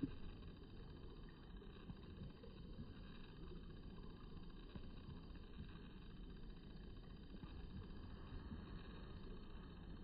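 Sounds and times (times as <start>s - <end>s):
faint low rumble: 0.0s - 10.0s.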